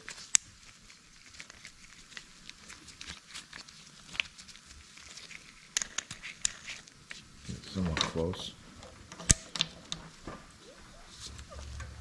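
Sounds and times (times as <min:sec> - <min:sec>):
plastic clicks and rustles: 0:00.0 - 0:07.2, 0:07.8 - 0:10.5.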